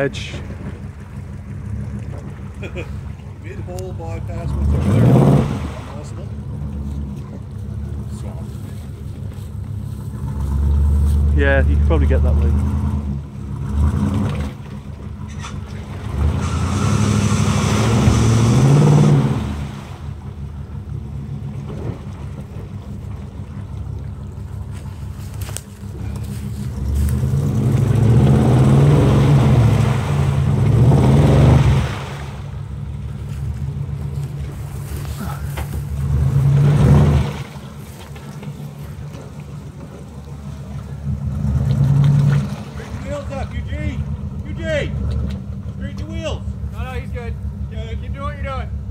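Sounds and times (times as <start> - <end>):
tyres splashing in mud: 0.0 - 6.8, 7.9 - 20.4, 21.4 - 46.2
suv engine revving: 0.0 - 48.9.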